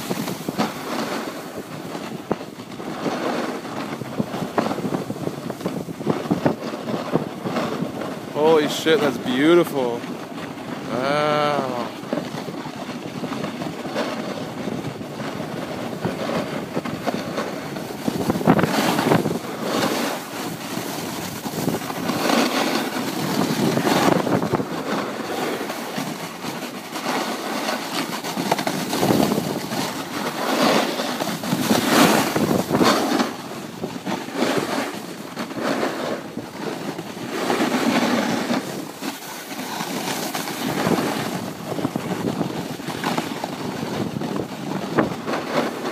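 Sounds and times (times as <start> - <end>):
snowboard carving on snow: 0.0 - 45.9
wind buffeting microphone: 0.0 - 45.9.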